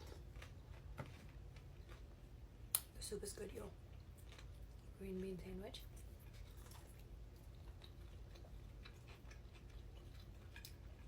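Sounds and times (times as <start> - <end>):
person chewing food: 0.0 - 2.8, 3.8 - 4.9, 5.9 - 11.0.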